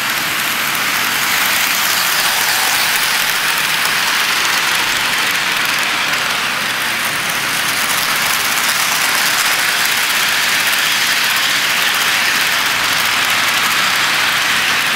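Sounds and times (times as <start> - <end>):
model train wheels rolling: 0.0 - 14.9
small electric motor whirring: 0.4 - 6.7, 7.3 - 14.2.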